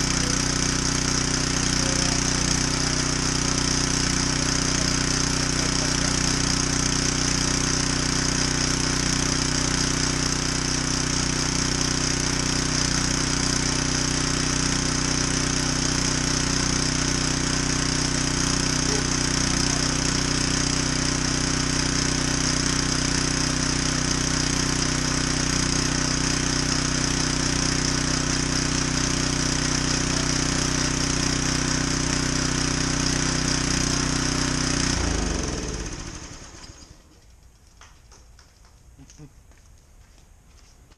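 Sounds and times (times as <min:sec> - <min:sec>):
pressure washer engine running: 0:00.0 - 0:37.3.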